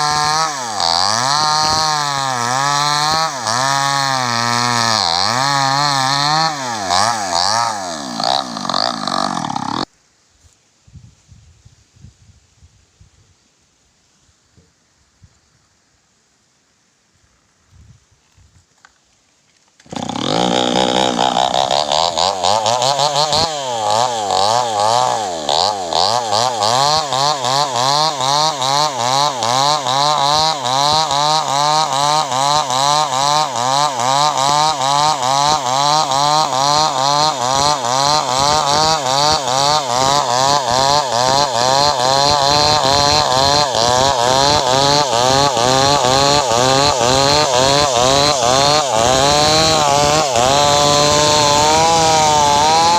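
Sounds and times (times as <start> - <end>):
chainsaw running: 0.0 - 9.9, 19.8 - 52.9.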